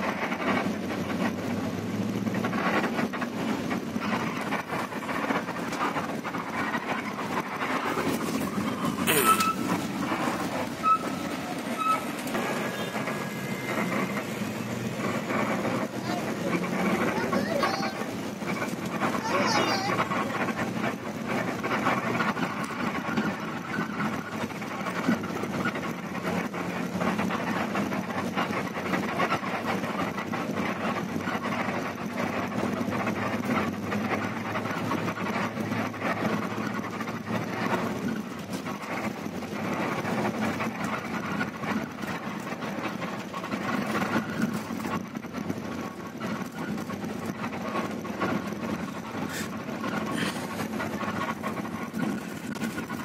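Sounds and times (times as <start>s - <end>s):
bus engine and road noise: 0.0s - 53.0s
bus knocks and rattles: 0.0s - 53.0s.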